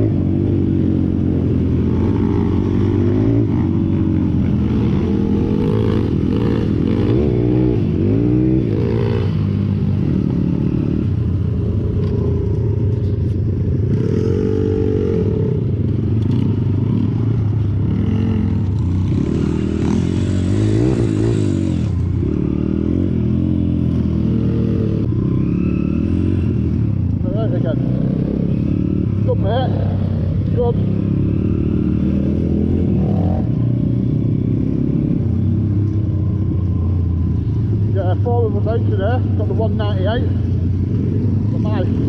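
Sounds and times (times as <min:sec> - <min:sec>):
pit bike engine revving: 0:00.0 - 0:42.0.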